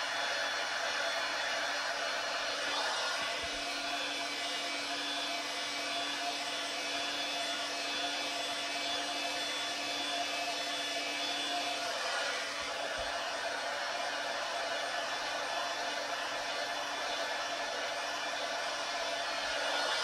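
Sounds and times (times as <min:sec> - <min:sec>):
heat gun fan blowing: 0:00.0 - 0:20.0.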